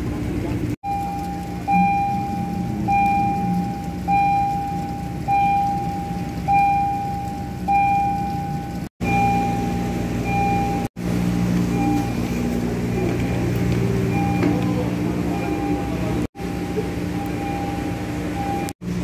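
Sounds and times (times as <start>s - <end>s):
low hum of tram machinery: 0.0s - 19.0s
high electronic warning tone: 0.8s - 18.8s.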